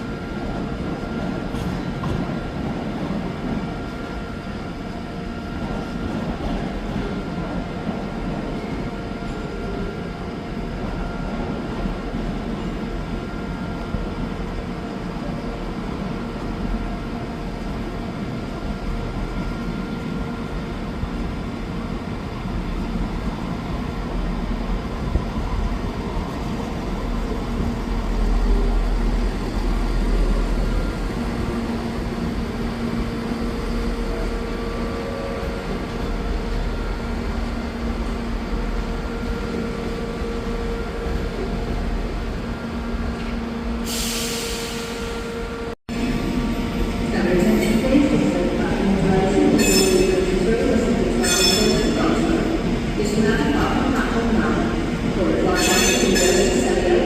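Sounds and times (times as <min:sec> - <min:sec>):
train running: 0:00.0 - 0:57.0.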